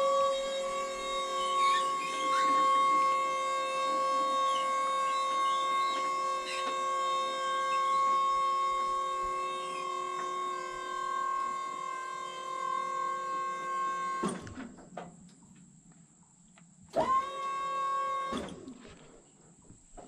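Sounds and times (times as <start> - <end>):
hydraulic pump motor whining: 0.0 - 15.1, 16.9 - 19.2.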